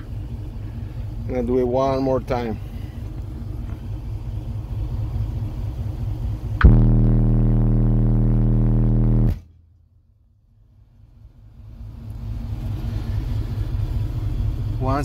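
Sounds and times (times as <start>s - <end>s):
low rumble: 0.0s - 15.0s
subwoofer low test tone: 0.0s - 15.0s.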